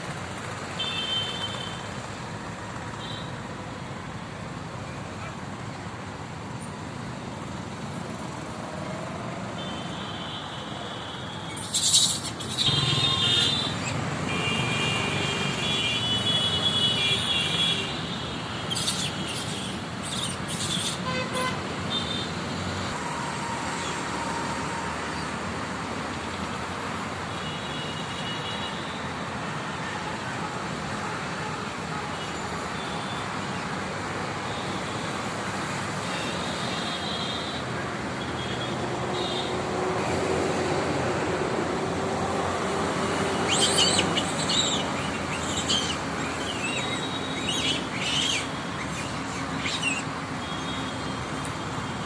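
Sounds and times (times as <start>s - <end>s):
road traffic noise: 0.0s - 52.0s.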